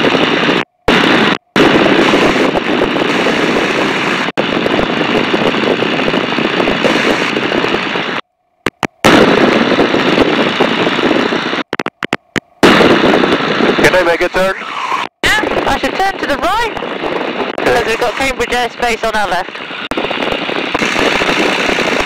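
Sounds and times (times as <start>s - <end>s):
aircraft engine running steadily: 0.0s - 22.0s
wind rush in open cockpit: 0.0s - 22.0s.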